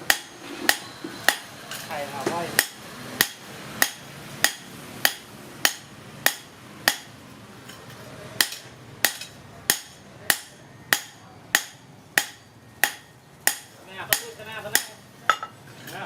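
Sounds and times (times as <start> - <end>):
hammer striking metal: 0.0 - 1.5, 2.6 - 15.6.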